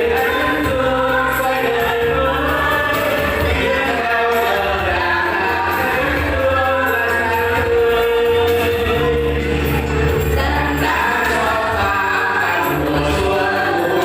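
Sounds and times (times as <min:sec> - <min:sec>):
group singing in unison: 0:00.0 - 0:14.0
instrumental backing track: 0:00.0 - 0:14.0.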